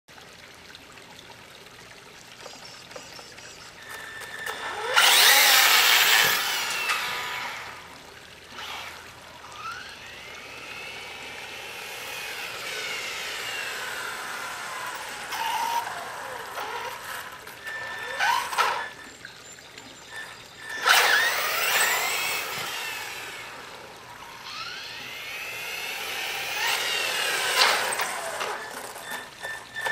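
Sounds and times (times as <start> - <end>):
drivetrain noise: 2.3 - 29.9
electric toy car motor whine: 3.0 - 29.9.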